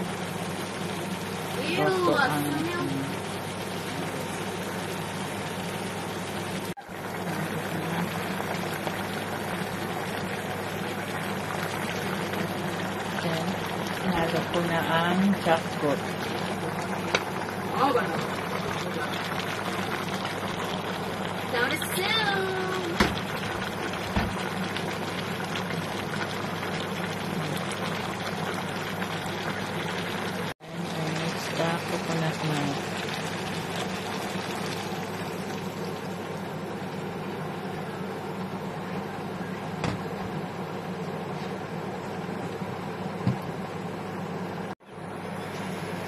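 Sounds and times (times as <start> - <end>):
pot bubbling on stove: 0.0 - 46.0.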